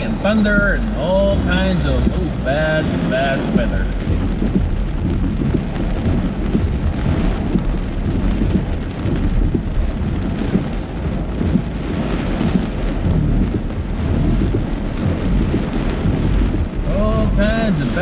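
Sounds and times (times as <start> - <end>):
heavy rain pelting car roof: 0.0 - 18.0
low car rumble: 0.0 - 18.0.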